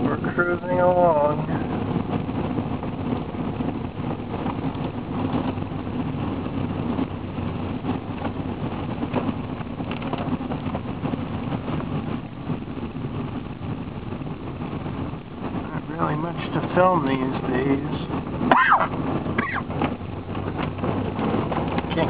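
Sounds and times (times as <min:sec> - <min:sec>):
car engine: 0:00.0 - 0:22.0
tyres on wet road: 0:00.0 - 0:22.0.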